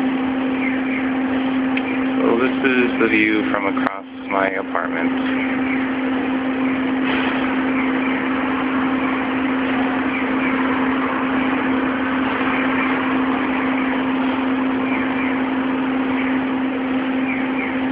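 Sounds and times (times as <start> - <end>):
construction machinery engine running: 0.0 - 17.9.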